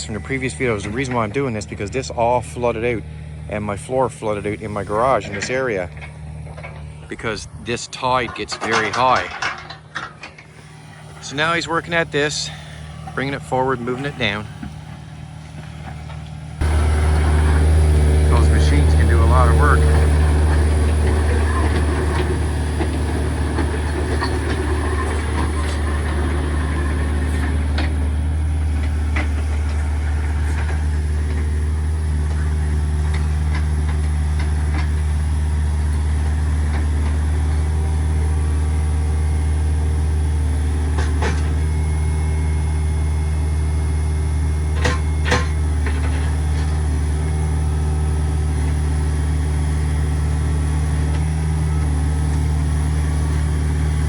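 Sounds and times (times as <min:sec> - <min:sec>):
heavy machine engine running: 0:00.0 - 0:54.0.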